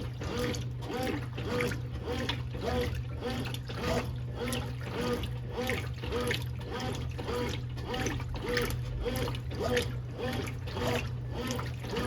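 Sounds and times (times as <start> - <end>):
motor hum: 0.0 - 12.0
washing machine water sloshing: 0.0 - 12.0.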